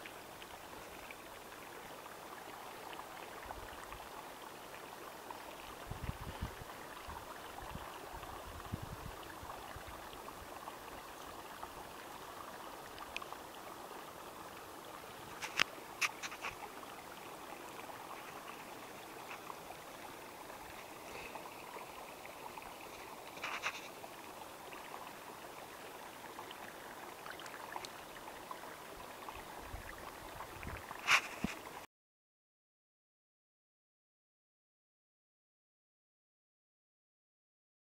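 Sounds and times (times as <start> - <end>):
water trickling and lapping: 0.0 - 31.9.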